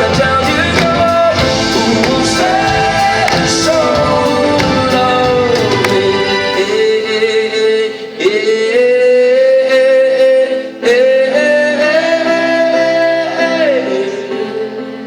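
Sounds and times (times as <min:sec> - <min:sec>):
live band accompaniment: 0:00.0 - 0:15.0
man singing long wordless notes: 0:00.0 - 0:15.0.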